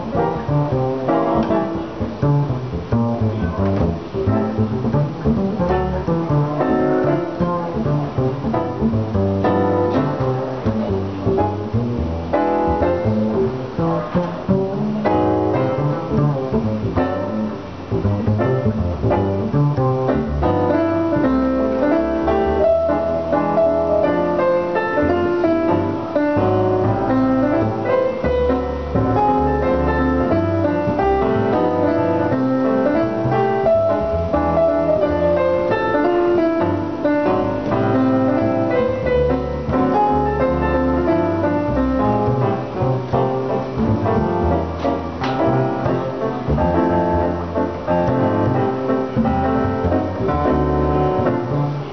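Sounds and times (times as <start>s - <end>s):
digital piano playing jazz: 0.0s - 51.9s
plucked double bass line: 0.0s - 51.9s.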